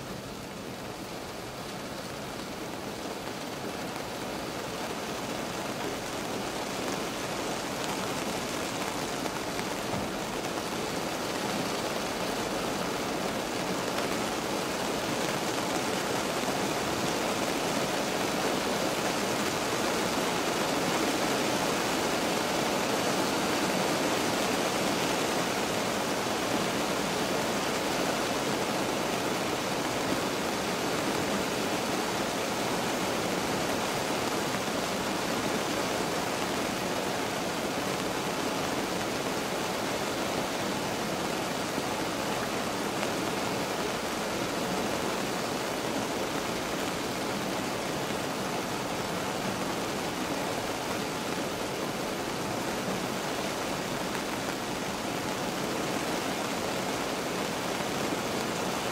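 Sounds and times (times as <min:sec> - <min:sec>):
rain heard inside a car: 0:00.0 - 0:58.9.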